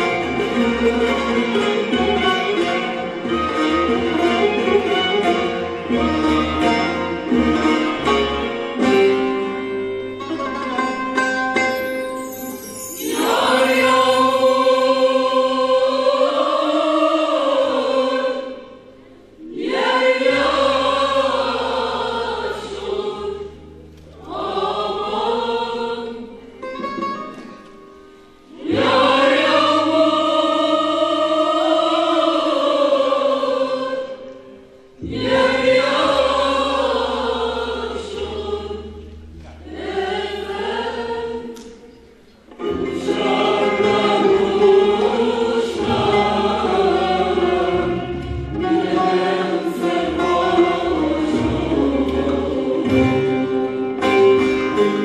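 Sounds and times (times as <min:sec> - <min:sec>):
mixed choir singing folk song: 0:00.0 - 0:55.0.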